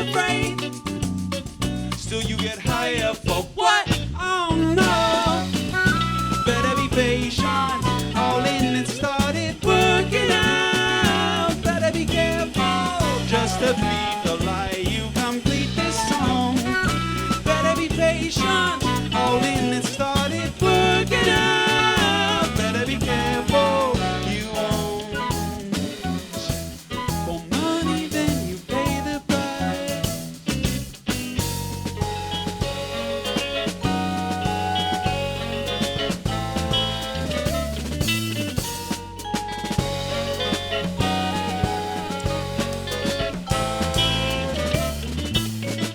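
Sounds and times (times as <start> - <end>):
bass guitar: 0.0 - 45.9
drum kit beat: 0.0 - 45.9
bending melodic lead line: 4.7 - 29.9, 31.4 - 45.9.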